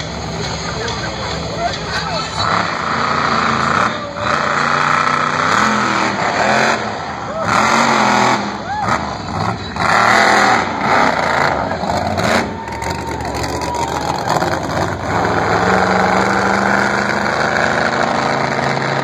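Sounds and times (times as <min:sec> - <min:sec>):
monster truck engine running: 0:00.0 - 0:19.0.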